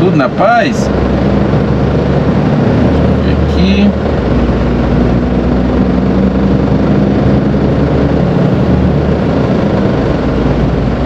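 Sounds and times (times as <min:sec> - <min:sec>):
road and tyre noise: 0:00.0 - 0:11.0
truck diesel engine cruising: 0:00.0 - 0:11.0.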